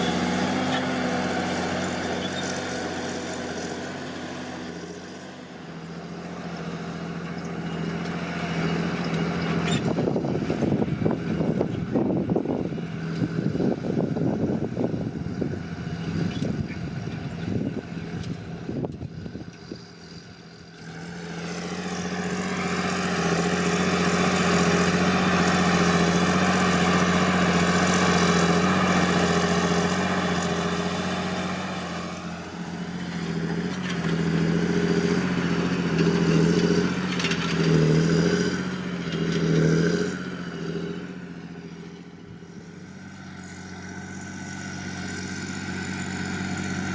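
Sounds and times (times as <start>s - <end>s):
diesel tractor engine under load: 0.0s - 46.9s.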